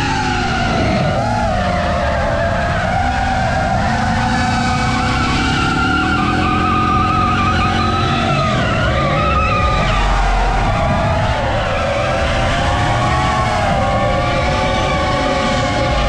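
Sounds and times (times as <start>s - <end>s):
car engine: 0.0s - 16.0s
tyres squealing: 0.0s - 16.0s.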